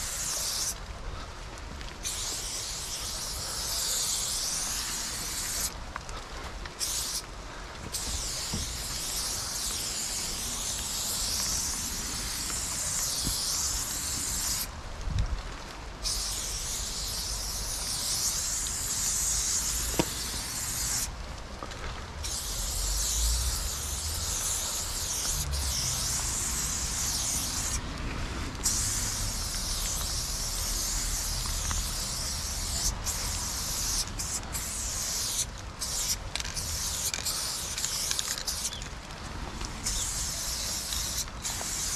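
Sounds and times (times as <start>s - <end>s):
spray paint can hissing: 0.0s - 0.8s, 2.0s - 5.8s, 6.8s - 7.2s, 7.9s - 14.7s, 16.0s - 21.2s, 22.2s - 27.9s, 28.6s - 38.9s, 39.8s - 41.9s.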